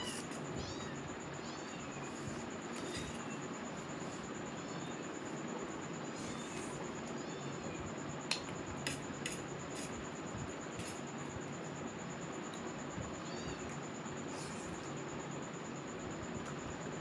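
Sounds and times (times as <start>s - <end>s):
ceiling fan whirring: 0.0s - 17.0s.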